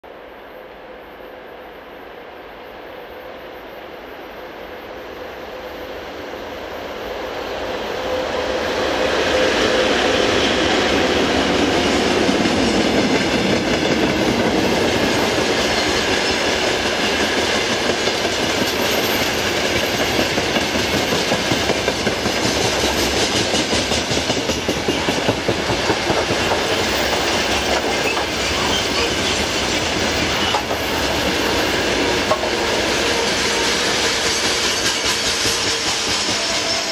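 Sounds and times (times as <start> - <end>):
electric locomotive passing: 0.1 - 36.9.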